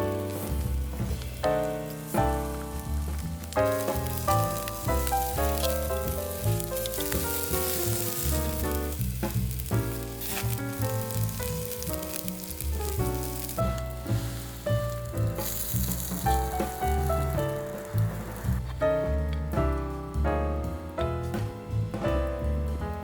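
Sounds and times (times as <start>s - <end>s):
meat sizzling on a griddle: 0.0s - 18.8s
background music: 0.0s - 23.0s.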